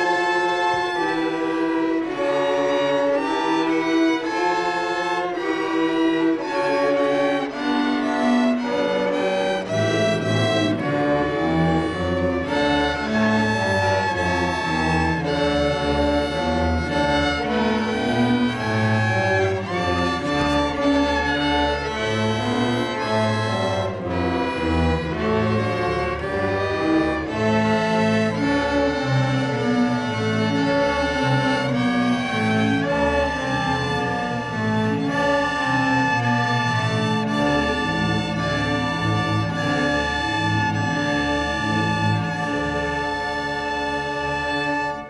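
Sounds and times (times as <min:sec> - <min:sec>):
string orchestra playing: 0:00.0 - 0:45.0.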